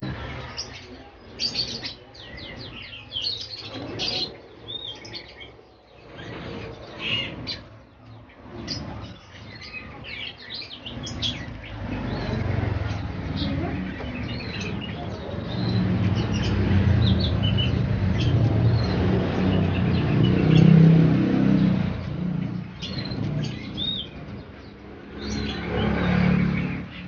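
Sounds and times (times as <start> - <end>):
songbirds chirping and whistling: 0.0 - 27.0.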